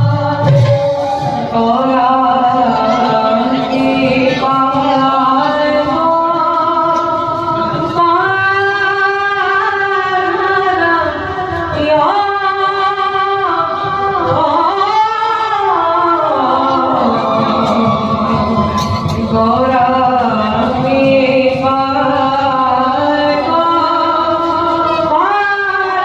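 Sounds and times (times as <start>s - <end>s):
person singing devotional song: 0.0s - 26.0s.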